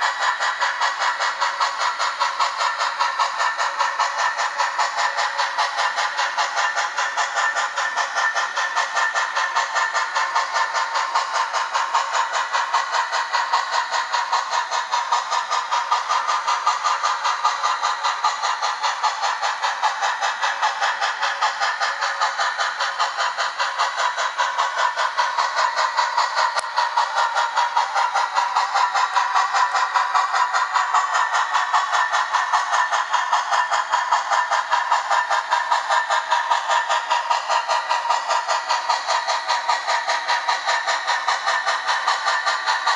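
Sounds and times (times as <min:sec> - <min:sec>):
model train exhaust chuffing: 0:00.0 - 0:42.9.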